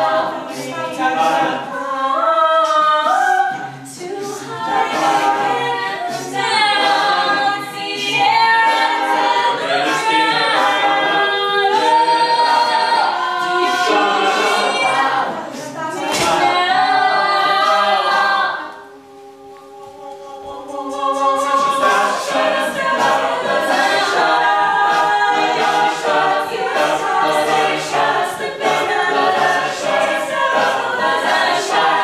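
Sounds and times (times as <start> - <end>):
a cappella group singing: 0.0 - 32.0.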